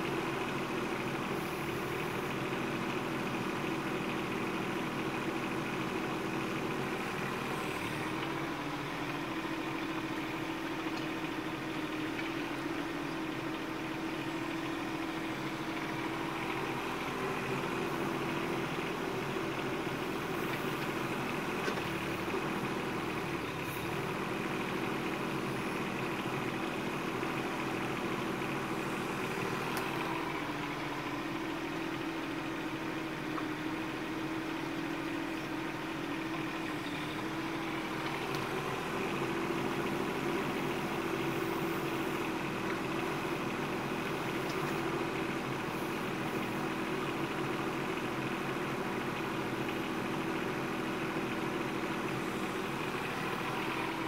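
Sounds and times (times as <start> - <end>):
mini excavator diesel engine: 0.0 - 54.0.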